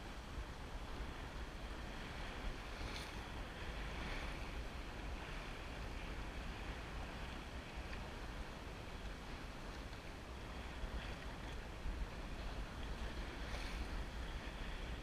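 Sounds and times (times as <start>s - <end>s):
wind buffeting microphone: 0.0s - 15.0s
water splashing along boat hull: 0.7s - 15.0s.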